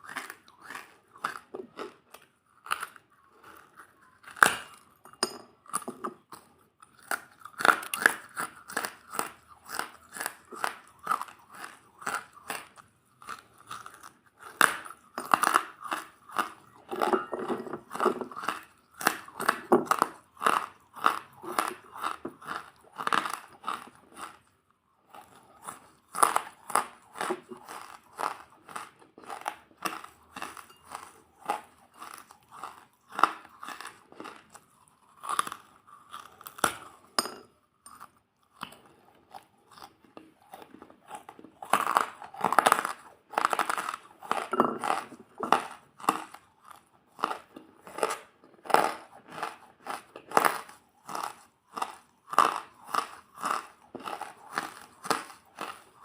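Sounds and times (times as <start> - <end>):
crunchy food chewing: 0.0 - 56.0.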